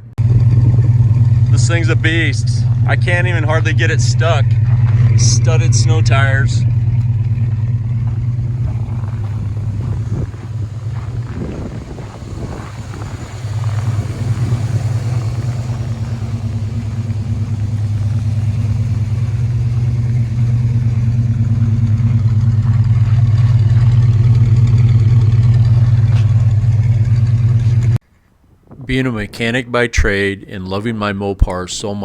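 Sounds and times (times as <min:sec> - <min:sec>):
car engine droning under load: 0:00.0 - 0:28.6.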